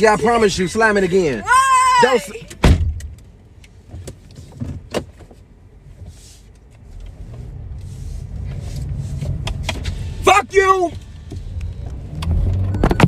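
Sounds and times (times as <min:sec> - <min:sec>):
low rumble inside a car: 0:00.0 - 0:13.0.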